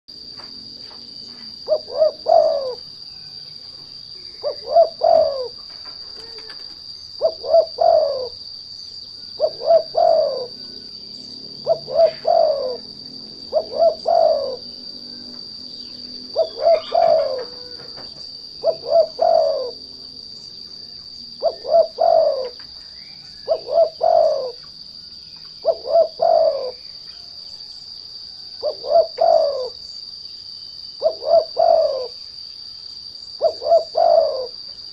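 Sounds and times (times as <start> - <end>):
high insect drone: 0.1 - 34.9
dove cooing: 1.2 - 8.5, 9.2 - 24.8, 25.6 - 27.4, 28.3 - 29.9, 31.0 - 32.2, 33.3 - 34.6.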